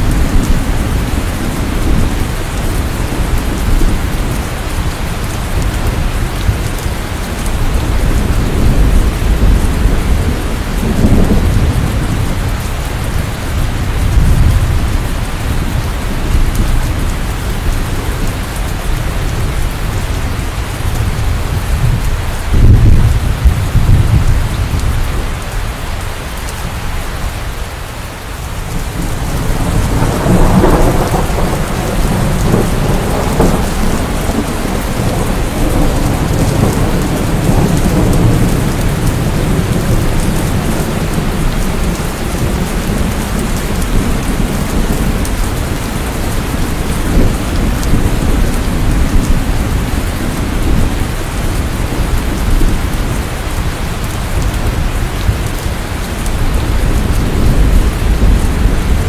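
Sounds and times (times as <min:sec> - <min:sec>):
rolling thunder: 0:00.0 - 0:25.5, 0:28.6 - 0:59.0
rain falling: 0:00.0 - 0:59.0.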